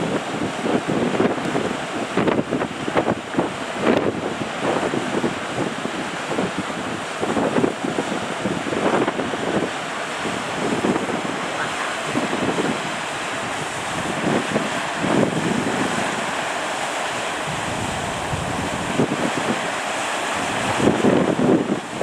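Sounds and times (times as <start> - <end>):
surf breaking on shore: 0.0 - 22.0
wind buffeting microphone: 0.0 - 22.0.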